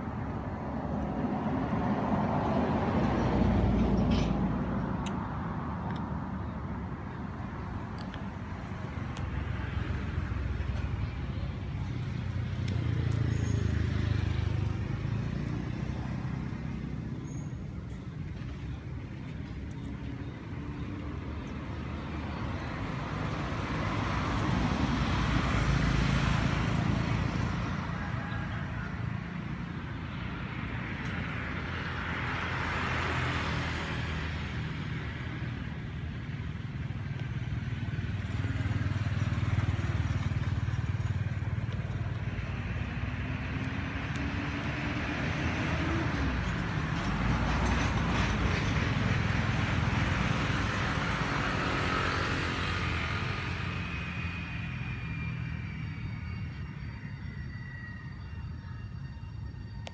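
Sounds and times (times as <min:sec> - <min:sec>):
vehicles passing on road: 0:00.0 - 0:59.9.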